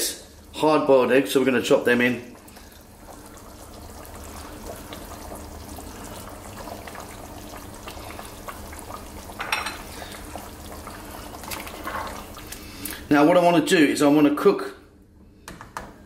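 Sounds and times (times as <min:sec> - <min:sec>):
curry bubbling in a pot: 0:00.0 - 0:13.1.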